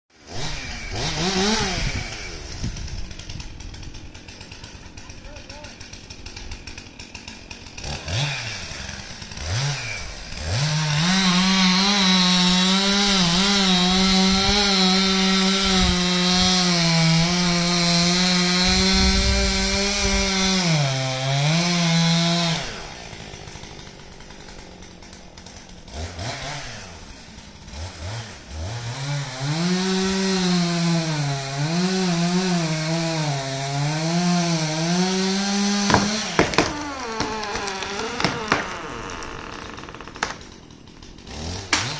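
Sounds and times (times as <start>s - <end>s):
chainsaw cutting wood: 0.1s - 41.9s.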